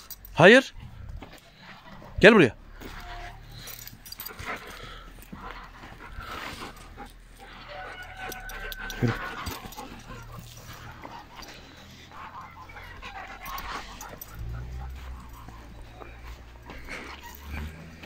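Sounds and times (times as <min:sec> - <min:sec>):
dog moving on dry ground: 0:00.9 - 0:18.0
faint dog sounds: 0:02.8 - 0:18.0.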